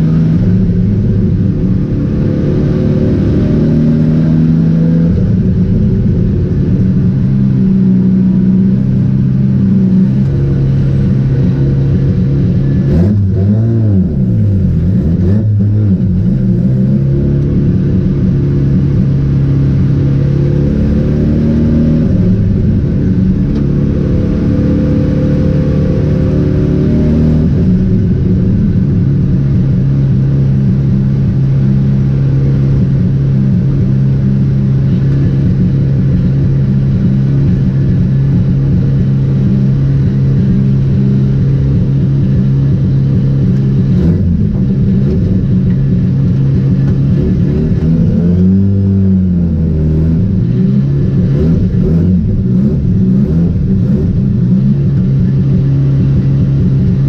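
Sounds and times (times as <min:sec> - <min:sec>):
rotary engine revving: 0:00.0 - 0:57.0.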